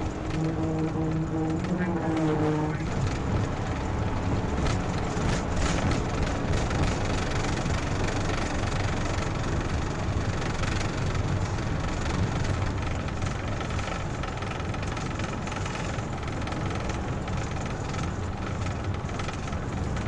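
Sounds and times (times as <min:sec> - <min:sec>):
car engine running hard: 0:00.0 - 0:20.0
road and wind noise: 0:00.0 - 0:20.0.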